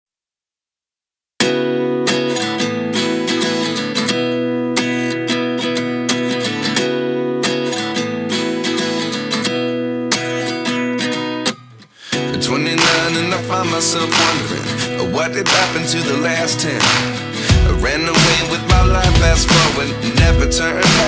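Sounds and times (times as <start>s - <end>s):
acoustic guitar strumming chords: 1.4s - 21.0s.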